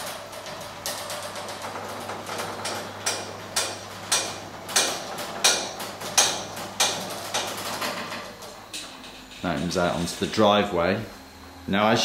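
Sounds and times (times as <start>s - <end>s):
garage door opener clacking: 0.0s - 12.0s.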